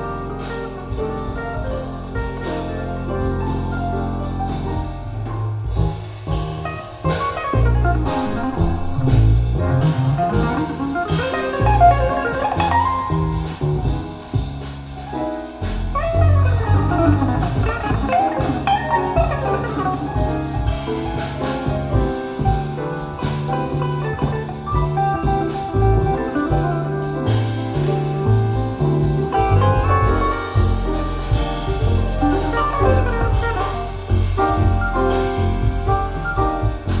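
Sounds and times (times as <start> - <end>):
jazz-blues music: 0.0 - 37.0.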